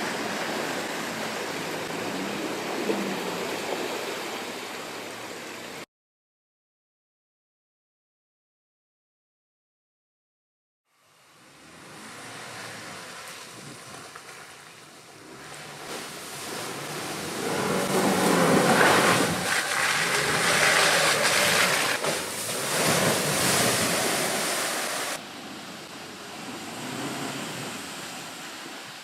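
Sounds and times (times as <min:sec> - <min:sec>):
vehicle driving off-road: 0:00.0 - 0:05.9, 0:10.9 - 0:29.0.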